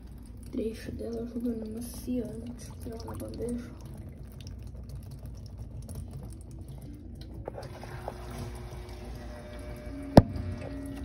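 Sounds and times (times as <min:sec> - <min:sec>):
pump humming: 0:00.0 - 0:11.0
water flowing: 0:00.0 - 0:11.0.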